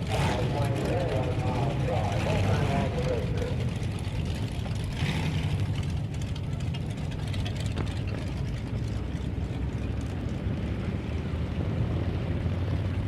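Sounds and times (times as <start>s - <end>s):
car engine idling with low rumble: 0.0s - 13.0s.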